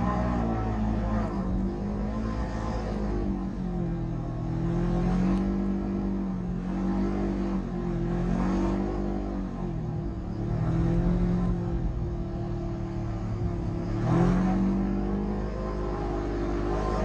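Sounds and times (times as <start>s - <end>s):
engine running under throttle: 0.0s - 17.0s.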